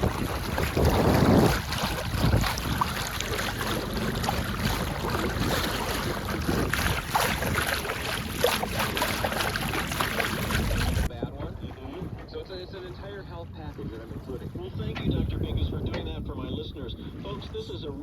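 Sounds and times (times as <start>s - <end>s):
water splashing along hull: 0.0s - 18.0s
wind buffeting microphone: 0.0s - 18.0s.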